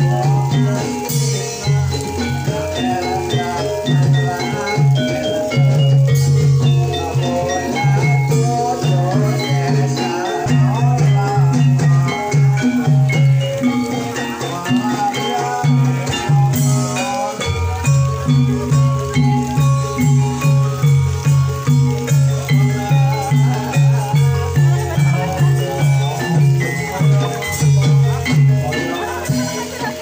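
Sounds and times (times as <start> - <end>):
gamelan music: 0.0 - 30.0.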